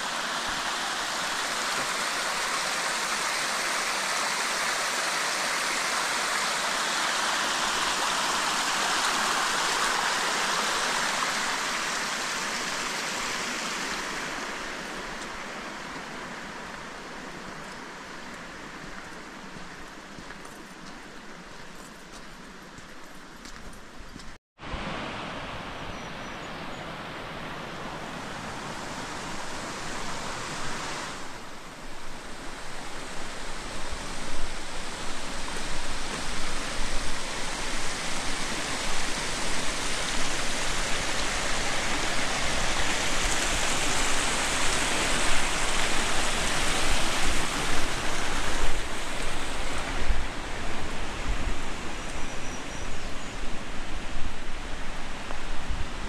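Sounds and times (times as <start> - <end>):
rushing water: 0.0 - 23.6, 24.6 - 56.0.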